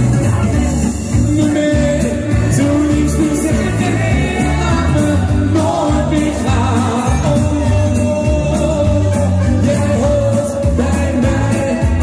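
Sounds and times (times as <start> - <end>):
live pop song with beat: 0.0 - 12.0.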